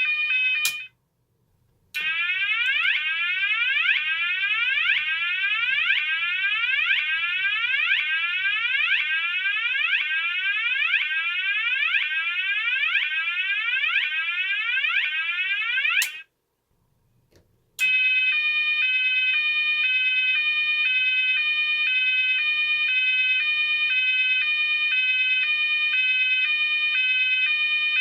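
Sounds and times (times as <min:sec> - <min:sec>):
fire alarm rising sweep: 0:00.0 - 0:00.9, 0:02.0 - 0:16.2, 0:17.8 - 0:28.0.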